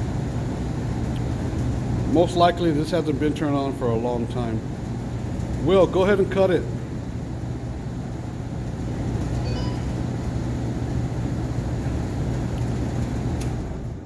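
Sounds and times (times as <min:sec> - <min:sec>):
furnace fan motor humming: 0:00.0 - 0:14.0.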